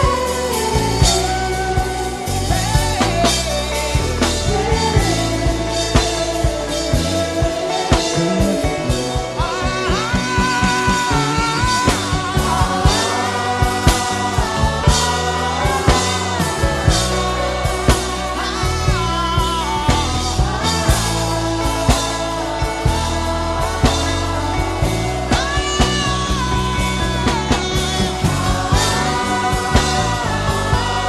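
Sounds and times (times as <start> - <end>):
band with drums and bass: 0.0 - 31.0.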